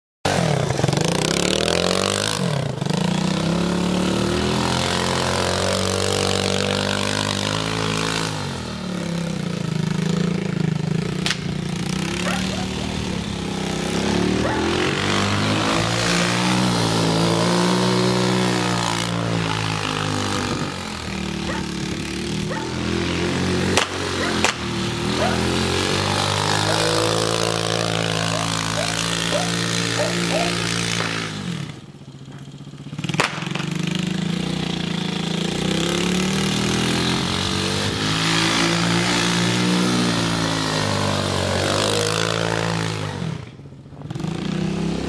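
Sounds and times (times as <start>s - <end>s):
quad bike engine revving: 0.2s - 45.0s.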